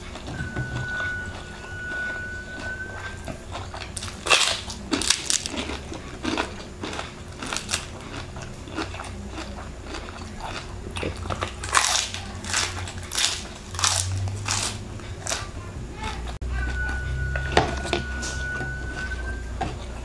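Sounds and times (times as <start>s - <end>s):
crunching and chewing crispy food: 0.0s - 20.0s.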